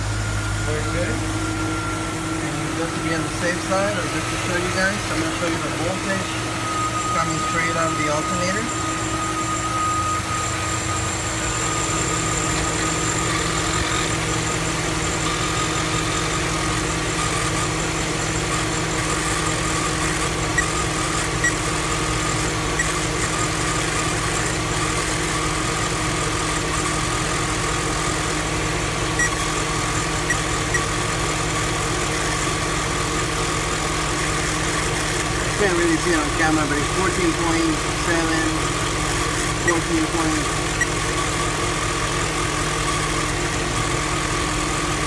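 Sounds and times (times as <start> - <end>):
alternator whine: 0.0 - 45.0
car engine idling: 0.0 - 45.0.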